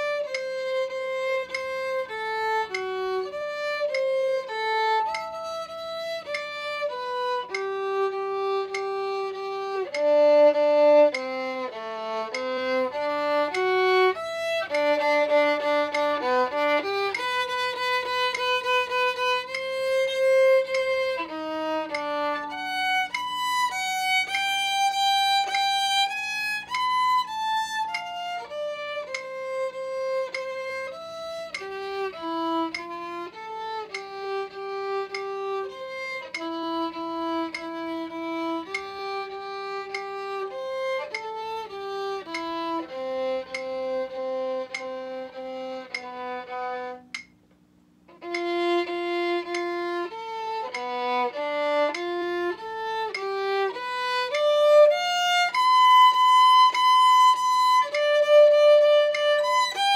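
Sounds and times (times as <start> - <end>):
solo violin playing: 0.0 - 47.2, 48.1 - 59.9.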